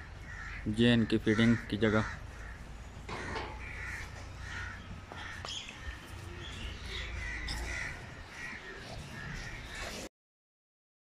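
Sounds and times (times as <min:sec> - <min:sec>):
birds calling: 0:00.0 - 0:10.1.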